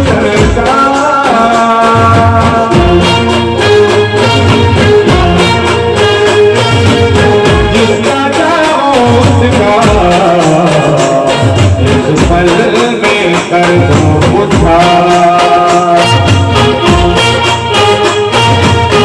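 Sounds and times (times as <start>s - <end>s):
brass band melody: 0.0s - 19.0s
drum beats: 0.0s - 19.0s
bass line: 1.9s - 19.0s.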